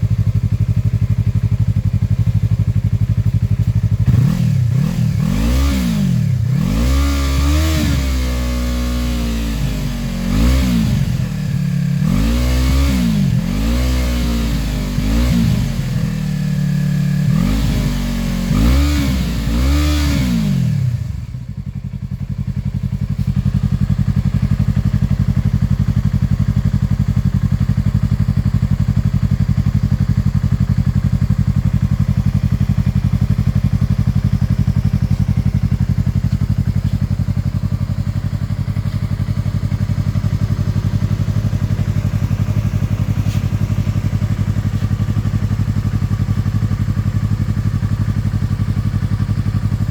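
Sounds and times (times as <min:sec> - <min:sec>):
motorcycle engine idling: 0:00.0 - 0:49.9
motorcycle engine revving: 0:00.0 - 0:49.9.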